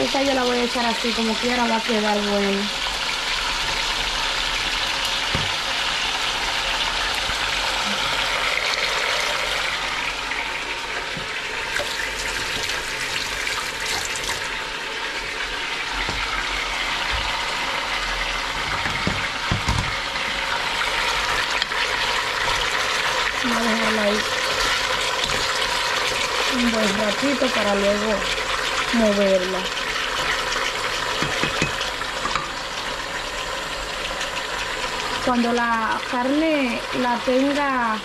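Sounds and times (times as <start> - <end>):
kitchen tap running: 0.0 - 38.0
meat sizzling in a pot: 0.0 - 38.0.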